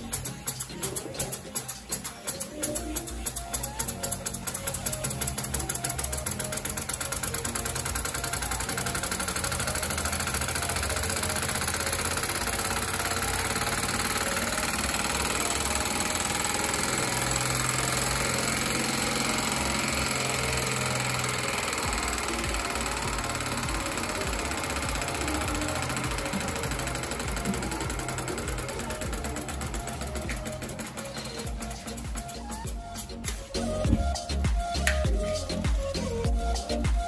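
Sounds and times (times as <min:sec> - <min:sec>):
small steam engine running: 0:00.0 - 0:34.3.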